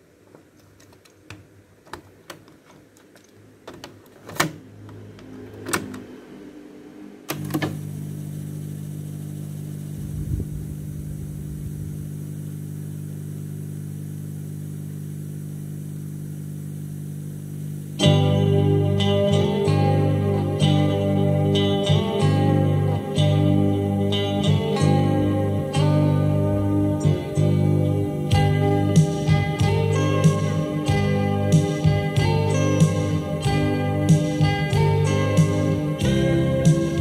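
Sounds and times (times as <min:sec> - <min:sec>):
tape hiss: 0:00.0 - 0:04.6, 0:06.7 - 0:37.0
tape deck hum: 0:07.2 - 0:37.0.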